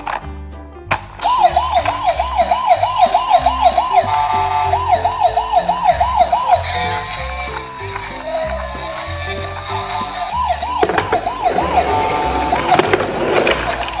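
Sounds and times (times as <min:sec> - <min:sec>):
emergency siren yelping: 0:01.2 - 0:14.0.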